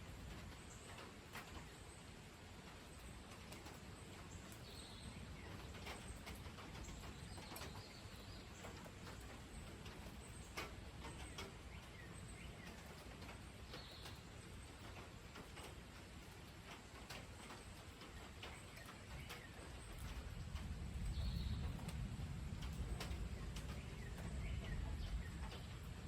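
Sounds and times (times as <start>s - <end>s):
light rain: 0.0s - 26.0s
rain drips and taps: 0.0s - 26.0s.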